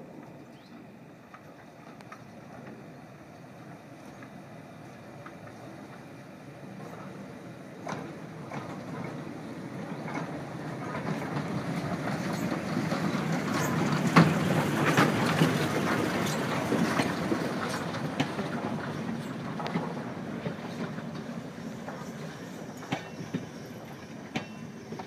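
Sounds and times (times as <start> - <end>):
diesel locomotive engine running: 0.0 - 25.0
train wheels clicking over rail joints: 0.1 - 25.0.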